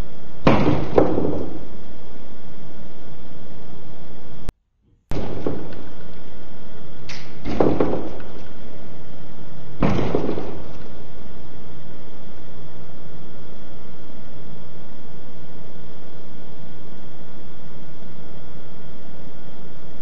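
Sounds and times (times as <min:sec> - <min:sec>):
faint low hum: 0:00.0 - 0:20.0
tape hiss: 0:00.0 - 0:20.0.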